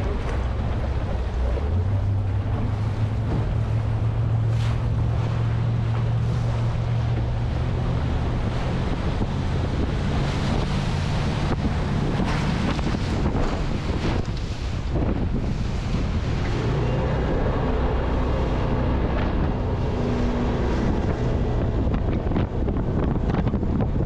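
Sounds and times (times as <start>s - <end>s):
boat engine humming: 0.0s - 24.0s
rushing splashing whitewater: 0.0s - 24.0s
wind buffeting microphone: 0.0s - 24.0s.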